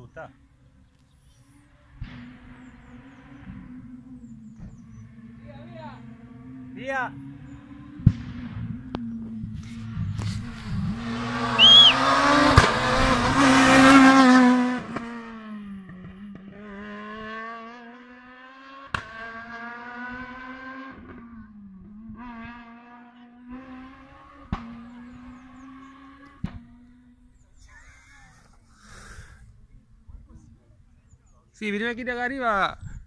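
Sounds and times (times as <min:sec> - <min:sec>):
rally car engine revving: 0:01.0 - 0:27.8.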